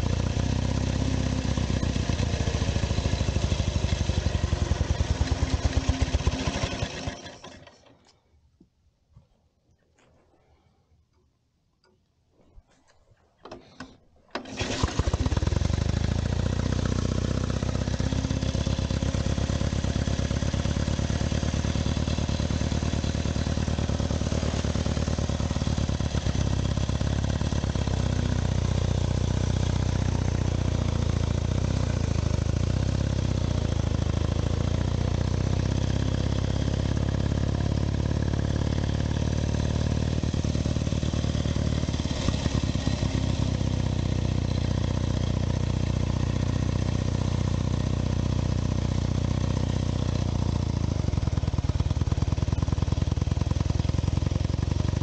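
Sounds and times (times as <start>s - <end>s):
motorcycle engine running: 0.0s - 7.7s, 14.4s - 55.0s.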